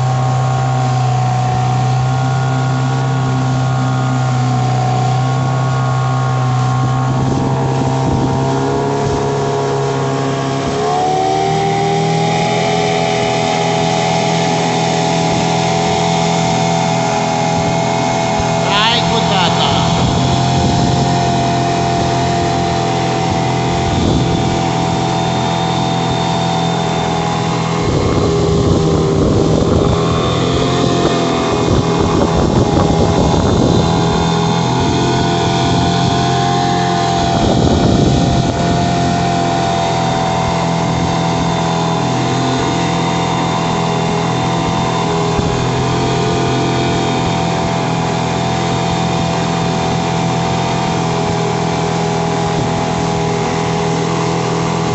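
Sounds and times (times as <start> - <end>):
outboard motor running: 0.0 - 54.9
rush of boat wake: 0.0 - 54.9.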